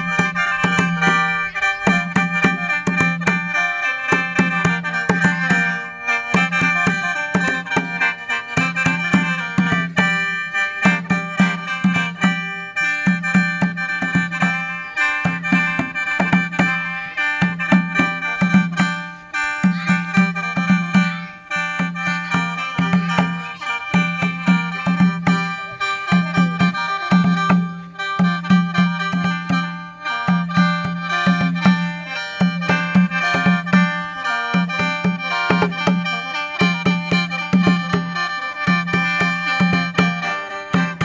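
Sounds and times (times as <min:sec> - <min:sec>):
bamboo mouth organ playing: 0:00.0 - 0:41.0
percussion strikes: 0:00.0 - 0:41.0.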